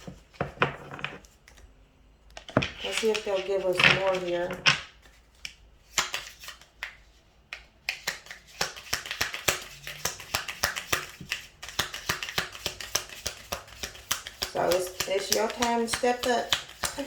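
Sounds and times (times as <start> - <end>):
cards being shuffled: 2.4 - 17.0.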